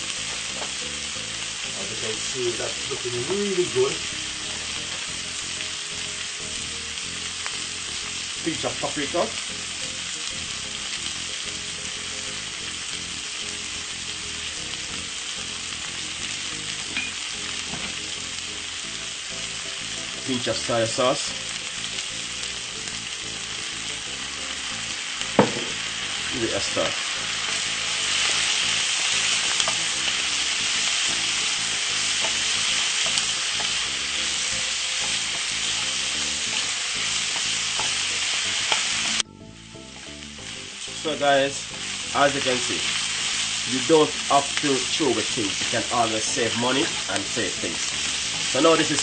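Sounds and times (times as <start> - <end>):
background music: 0.0 - 49.0
vegetables sizzling in a pan: 0.0 - 49.0.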